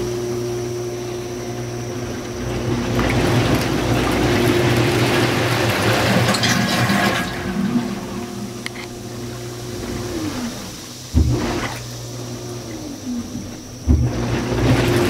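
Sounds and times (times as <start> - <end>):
pump hum: 0.0 - 15.0
water rushing into hot tub: 1.4 - 15.0.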